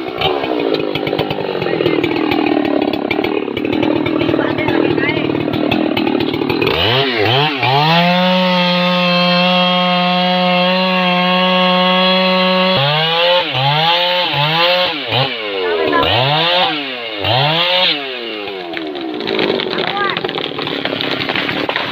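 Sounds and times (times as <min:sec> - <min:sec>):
chainsaw revving: 0:00.0 - 0:21.9.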